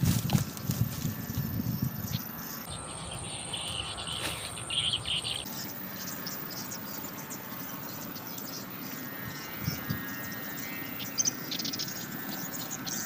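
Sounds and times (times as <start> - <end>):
insects chirping: 0.0 - 13.0
high-pitched insect drone: 0.4 - 13.0.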